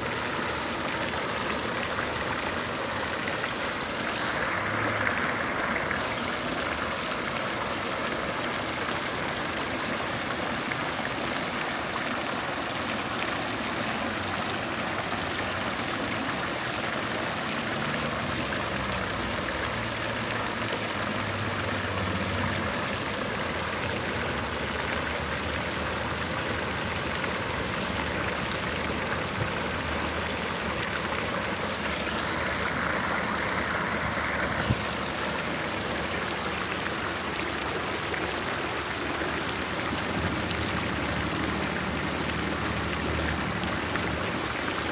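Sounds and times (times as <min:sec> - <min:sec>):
fountain water splashing: 0:00.0 - 0:44.9.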